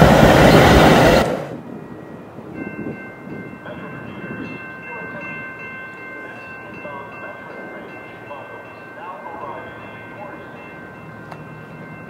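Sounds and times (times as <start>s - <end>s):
low train rumble: 0.0s - 12.0s.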